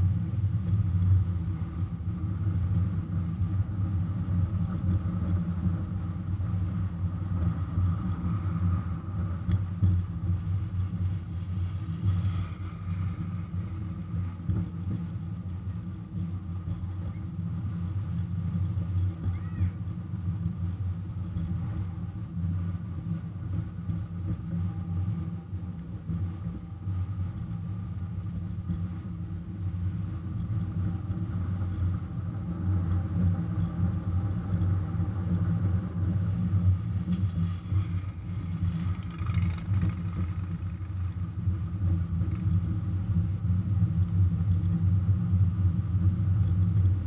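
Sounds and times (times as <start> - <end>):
miniature locomotive engine drone: 0.0 - 47.0.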